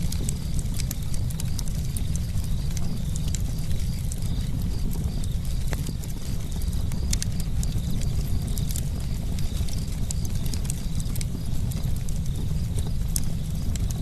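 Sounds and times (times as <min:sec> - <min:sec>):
campfire flames rumbling: 0:00.0 - 0:14.0
wood crackling and popping: 0:00.0 - 0:14.0.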